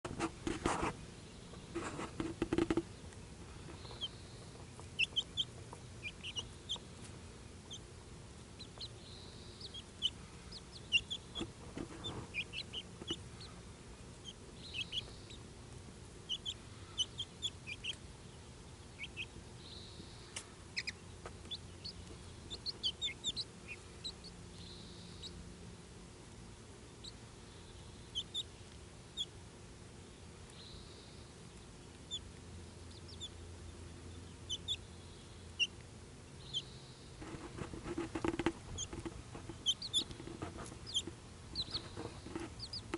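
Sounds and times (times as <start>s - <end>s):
chicks peeping: 0.0s - 25.5s, 26.2s - 29.5s, 30.2s - 42.9s.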